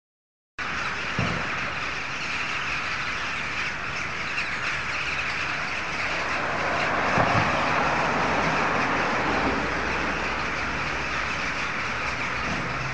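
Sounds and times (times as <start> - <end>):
flock of birds calling: 0.6 - 12.9.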